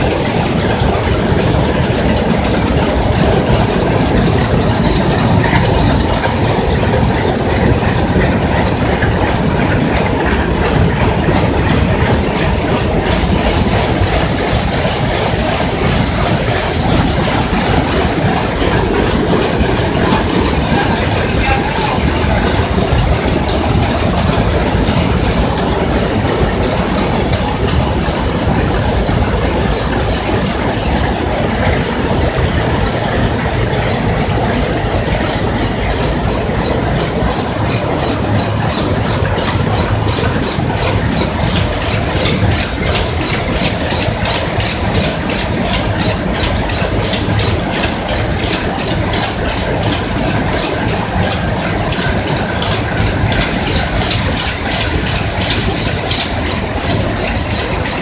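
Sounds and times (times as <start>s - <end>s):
looms clattering: 0.0s - 58.0s.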